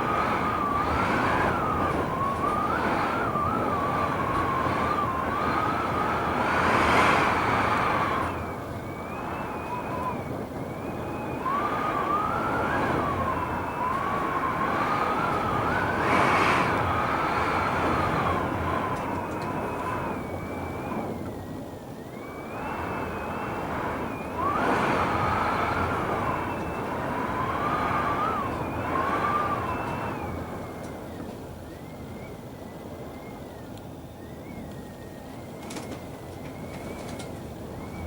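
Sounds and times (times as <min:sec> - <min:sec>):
gusting wind whistling: 0:00.0 - 0:38.0.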